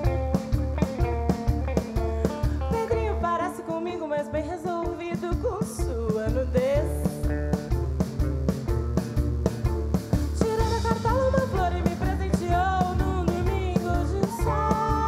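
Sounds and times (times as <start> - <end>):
pop-rock band playing: 0.0 - 15.0.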